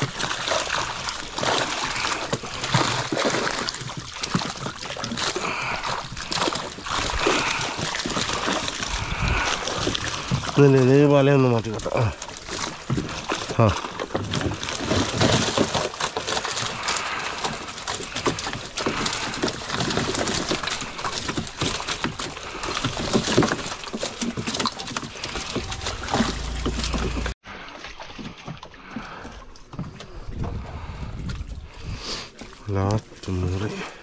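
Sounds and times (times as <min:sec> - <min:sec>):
water sloshing around boat: 0:00.0 - 0:34.0.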